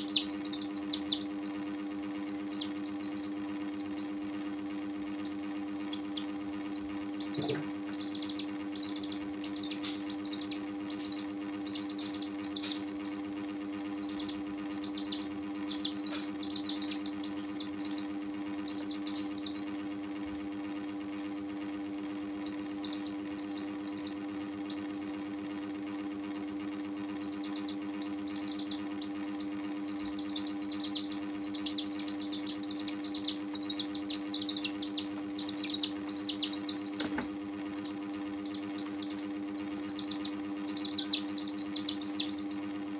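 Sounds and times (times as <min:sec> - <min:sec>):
chicks peeping: 0:00.0 - 0:42.9
steady low hum: 0:00.0 - 0:42.9.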